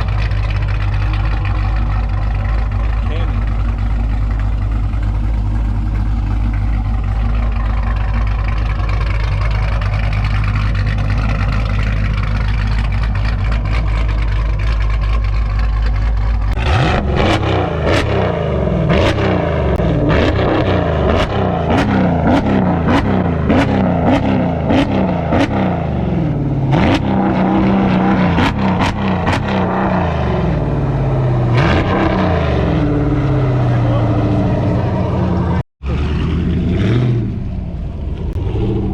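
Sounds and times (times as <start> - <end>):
car engine idling: 0.0 - 38.9
engine revving: 0.0 - 38.9
exhaust cracks: 0.0 - 38.9.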